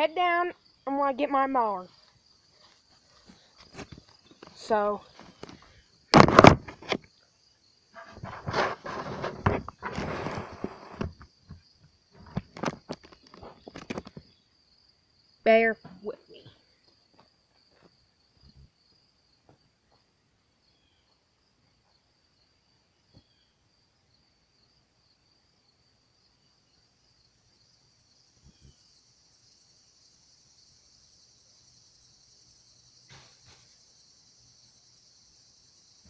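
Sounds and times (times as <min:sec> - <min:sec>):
faint insect trill: 0:00.0 - 0:36.0.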